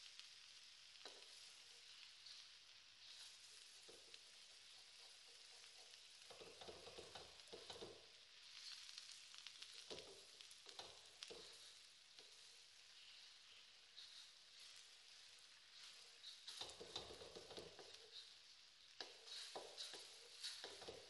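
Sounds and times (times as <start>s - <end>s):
egg and greens sizzling in a wok: 0.0s - 21.0s
wooden spatula scraping a wok: 1.0s - 21.0s.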